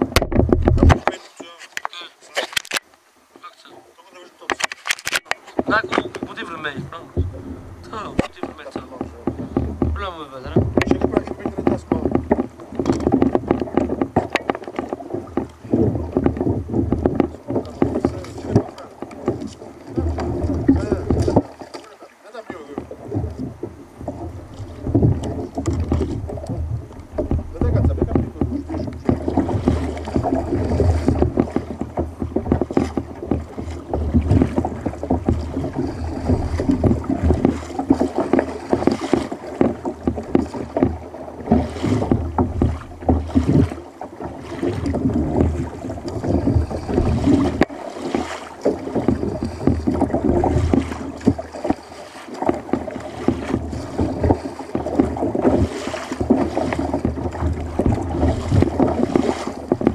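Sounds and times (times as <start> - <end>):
paddle blades splashing: 0.0 - 59.9
water rushing along hull: 0.0 - 59.9.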